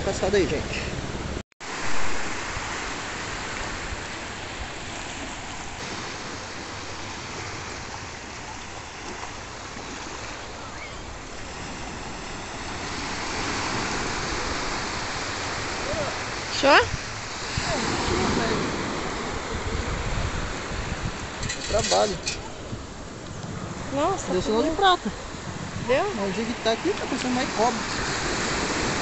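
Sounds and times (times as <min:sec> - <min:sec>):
small waves washing up a beach: 0:00.0 - 0:29.0.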